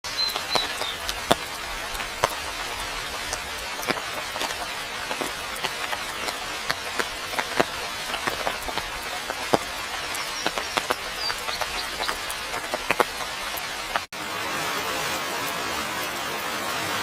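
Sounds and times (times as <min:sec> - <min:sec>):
raindrops ticking close by: 0:00.0 - 0:14.1
steady rain falling: 0:00.0 - 0:17.0.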